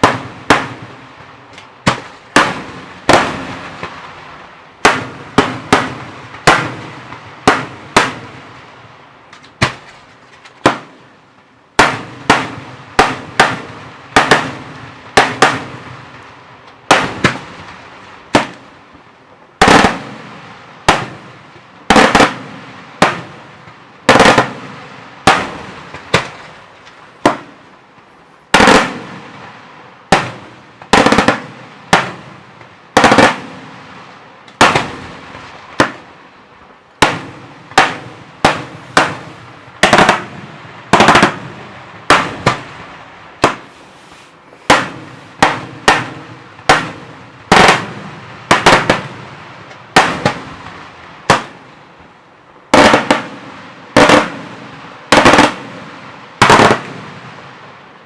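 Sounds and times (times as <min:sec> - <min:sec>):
fireworks bangs with echo: 0:00.0 - 0:19.0, 0:19.6 - 0:36.3, 0:37.0 - 0:51.8, 0:52.7 - 0:57.8.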